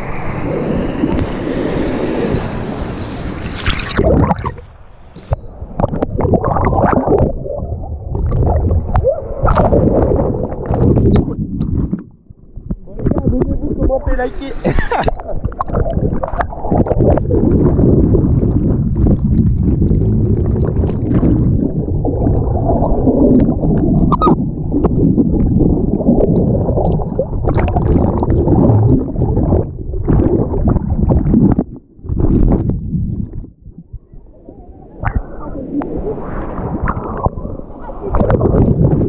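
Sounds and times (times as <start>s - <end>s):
underwater churning water rumble: 0.0s - 39.0s
bubbling and clicks: 0.8s - 34.4s, 35.0s - 35.9s, 36.6s - 39.0s.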